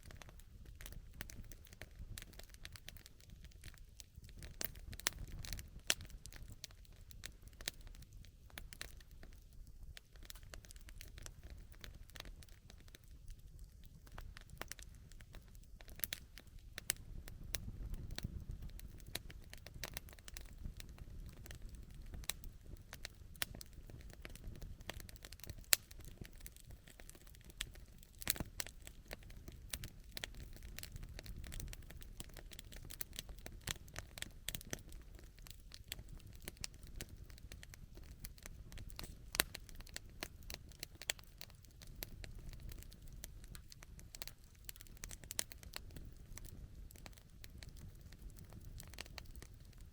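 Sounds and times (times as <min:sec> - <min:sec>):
campfire crackling and popping: 0:00.0 - 0:49.9
low rumble of burning: 0:00.0 - 0:49.9.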